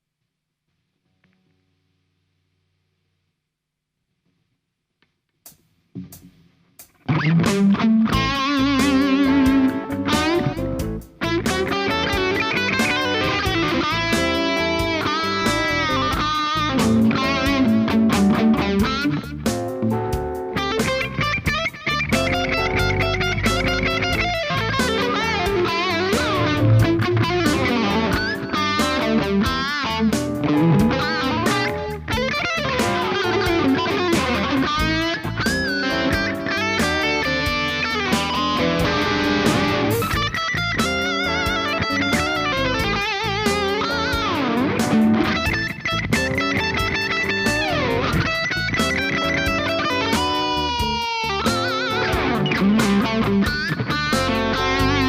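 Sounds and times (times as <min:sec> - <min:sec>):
distorted electric guitar lead: 0:06.0 - 0:55.0.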